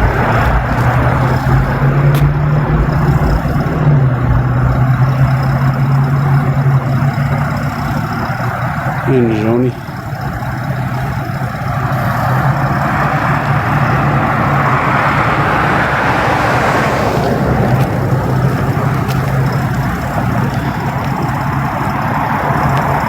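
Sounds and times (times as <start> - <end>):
vehicle engine hum with road noise: 0.0 - 23.0.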